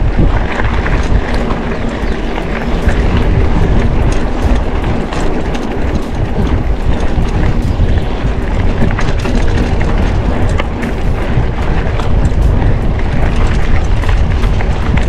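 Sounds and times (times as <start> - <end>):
bike rattling and knocking: 0.0 - 15.0
wind on microphone: 0.0 - 15.0.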